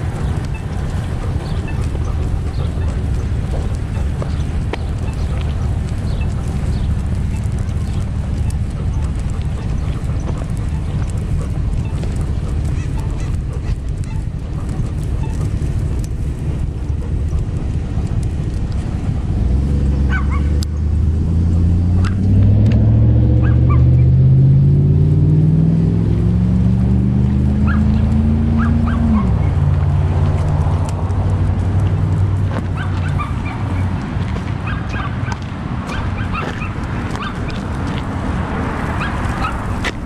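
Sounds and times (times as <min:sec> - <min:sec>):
low traffic rumble: 0:00.0 - 0:40.0
vehicle engine pulling away: 0:00.0 - 0:40.0.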